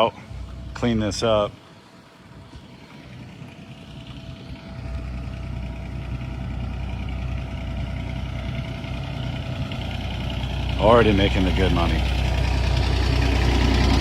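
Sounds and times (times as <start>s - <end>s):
skid steer engine idling: 0.0s - 14.0s.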